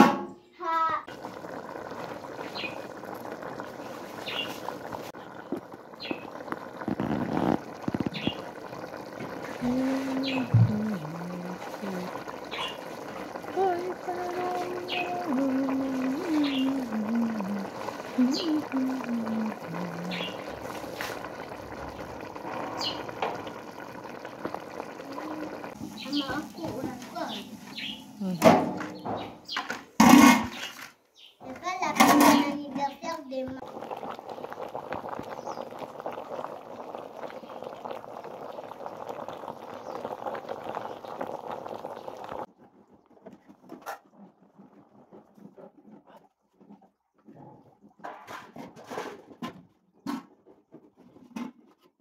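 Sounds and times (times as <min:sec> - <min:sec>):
stew bubbling and popping: 0:01.0 - 0:52.0.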